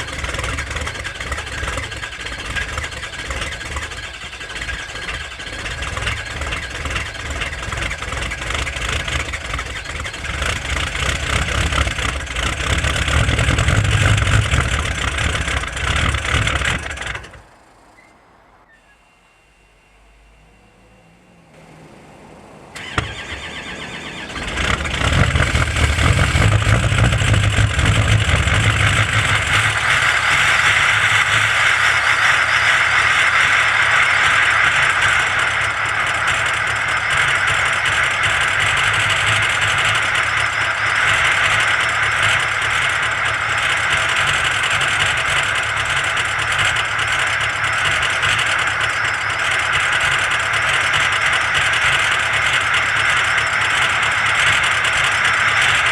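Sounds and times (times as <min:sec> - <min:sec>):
diesel engine cranking and running: 0:00.0 - 0:55.9.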